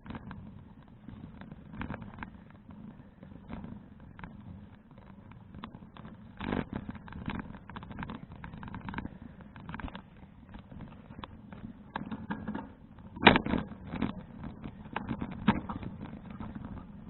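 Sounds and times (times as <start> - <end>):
bicycle clicks and rattles: 0.0 - 17.0.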